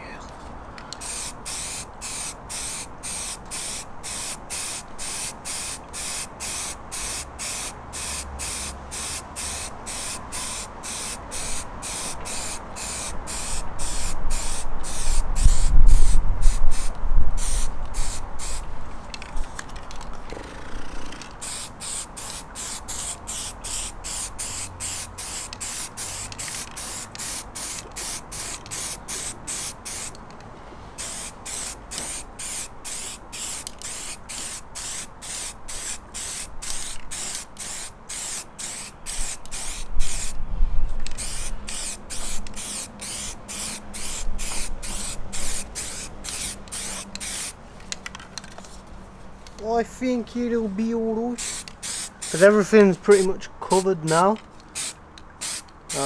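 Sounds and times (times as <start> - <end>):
spray paint can hissing: 0.9 - 19.3, 20.6 - 30.2, 31.0 - 40.4, 41.0 - 47.6, 51.4 - 53.3, 54.0 - 56.0.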